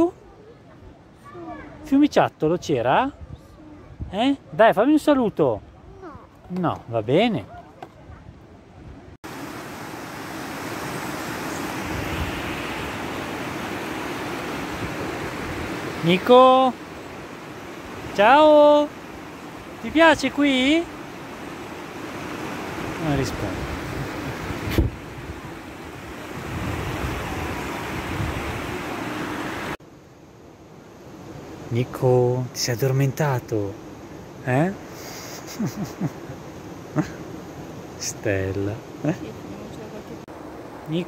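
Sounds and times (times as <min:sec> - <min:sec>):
rushing stream: 0:00.0 - 0:41.0.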